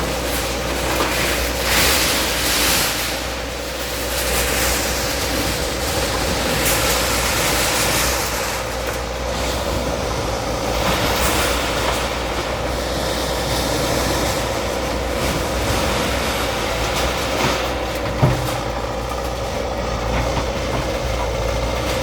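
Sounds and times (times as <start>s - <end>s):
bulldozer diesel engine humming: 0.0s - 22.0s
rough noisy wash: 0.0s - 22.0s.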